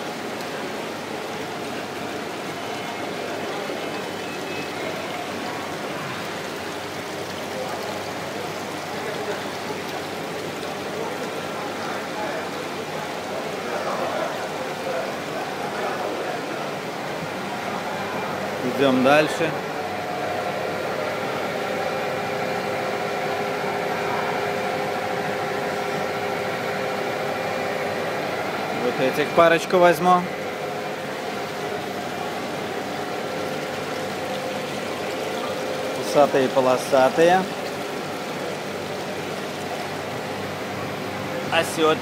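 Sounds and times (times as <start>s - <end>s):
water running and bubbling: 0.0s - 42.0s.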